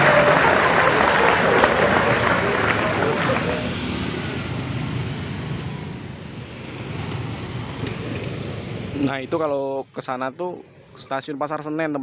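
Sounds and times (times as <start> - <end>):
motorcycles and cars passing: 0.0 - 11.2.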